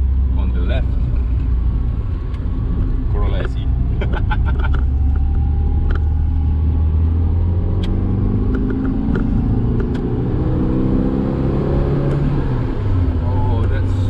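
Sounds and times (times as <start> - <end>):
car engine droning and revving: 0.0 - 14.0.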